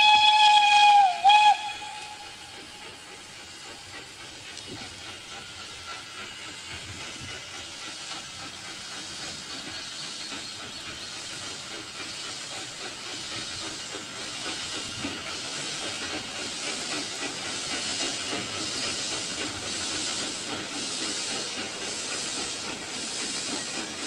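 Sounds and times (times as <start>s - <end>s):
hiss of steam: 0.0s - 24.0s.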